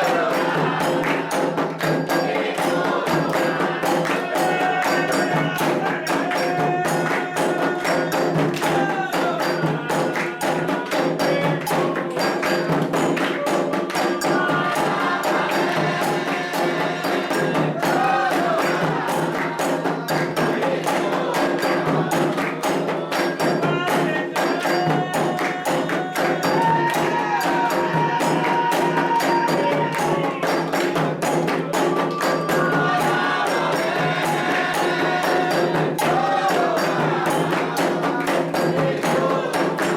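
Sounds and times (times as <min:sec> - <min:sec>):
hand drums beating: 0:00.0 - 0:39.9
voices singing a chant: 0:00.0 - 0:39.9.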